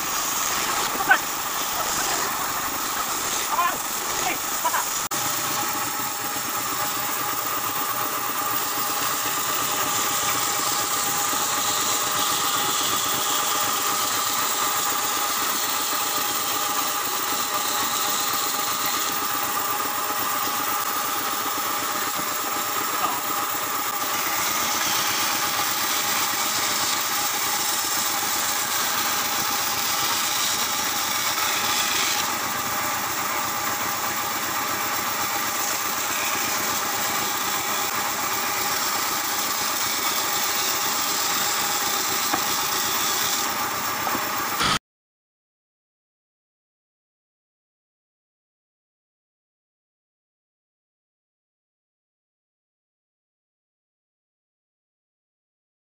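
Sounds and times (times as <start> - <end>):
band saw cutting wood: 0.0 - 44.8.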